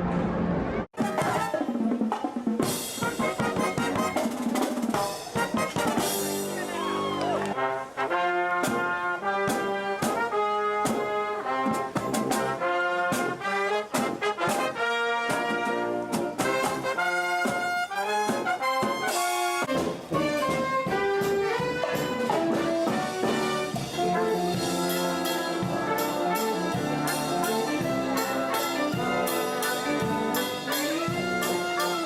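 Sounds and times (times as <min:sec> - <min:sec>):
brass music playing lively tune: 0:00.9 - 0:32.0.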